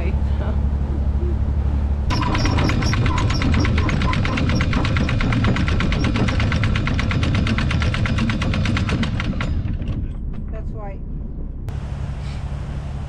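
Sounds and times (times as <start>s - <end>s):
diesel engine rumbling: 0.0s - 13.0s
fast even pulsing: 0.6s - 11.7s.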